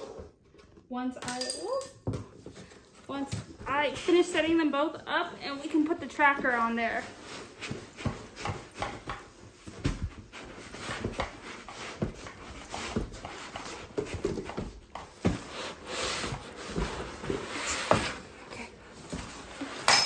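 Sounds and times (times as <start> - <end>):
cardboard and styrofoam scraping: 2.6 - 19.9.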